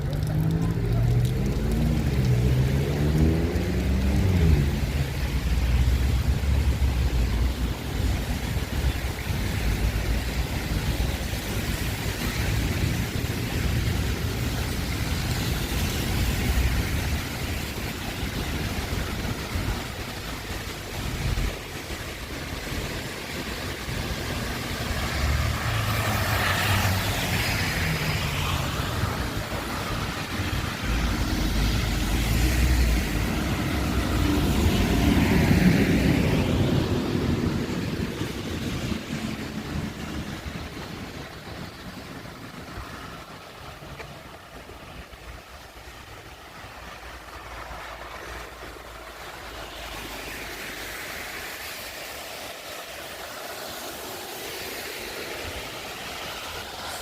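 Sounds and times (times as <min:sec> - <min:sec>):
traffic hiss on wet road: 0:00.0 - 0:57.0.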